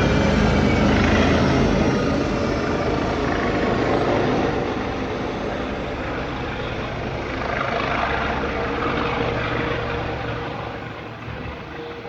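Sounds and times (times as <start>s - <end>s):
helicopter hovering overhead: 0.0s - 12.0s.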